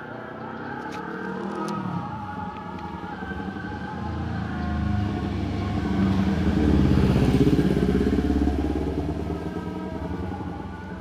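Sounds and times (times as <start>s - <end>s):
vehicle engine passing by: 1.1s - 11.0s.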